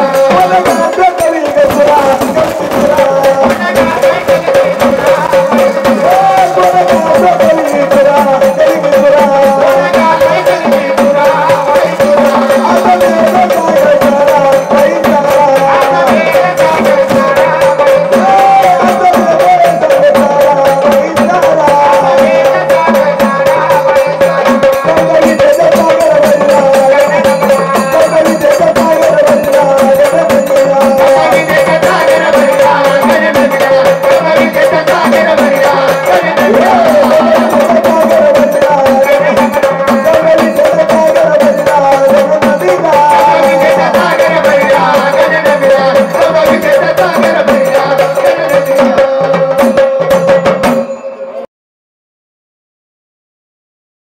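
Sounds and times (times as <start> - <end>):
hand-drum and rattle percussion: 0.0 - 51.5.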